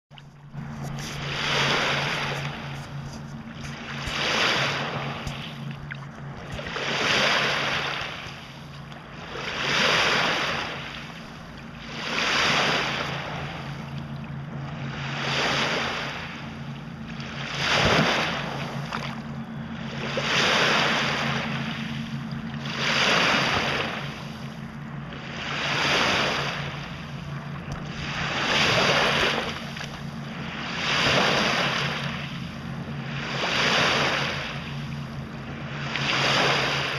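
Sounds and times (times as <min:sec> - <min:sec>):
steady low hum: 0:00.1 - 0:36.9
waves washing onto shore: 0:00.2 - 0:36.9.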